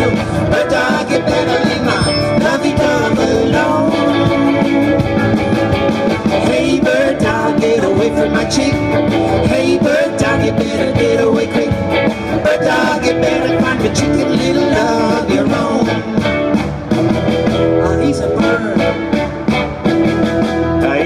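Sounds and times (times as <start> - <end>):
live rock and roll band: 0.0 - 21.0.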